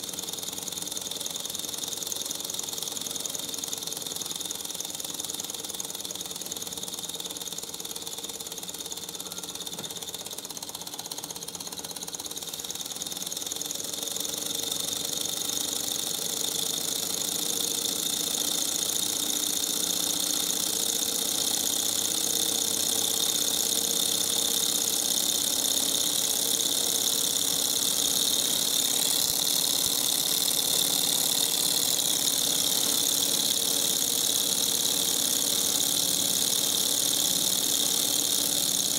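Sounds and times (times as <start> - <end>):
small engine mechanical whirr: 0.0 - 38.9.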